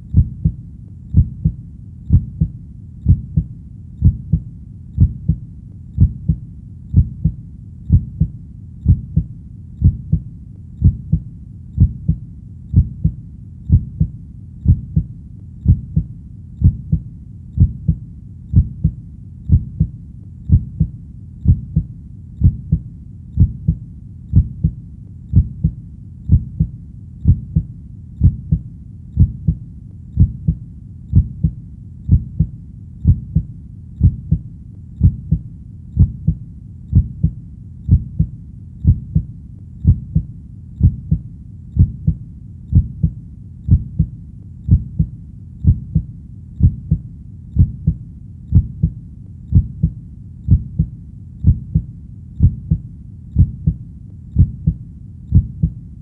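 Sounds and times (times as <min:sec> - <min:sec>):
faint low hum: 0:00.0 - 0:56.0
heartbeat: 0:00.0 - 0:56.0.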